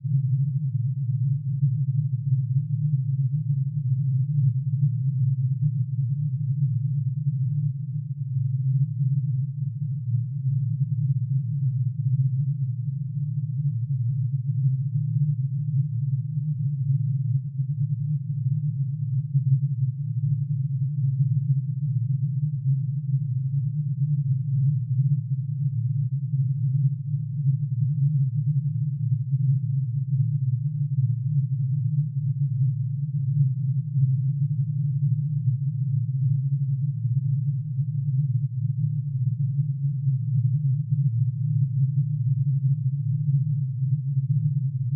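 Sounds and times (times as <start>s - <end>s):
synthesized sine tone drone: 0.0s - 44.9s.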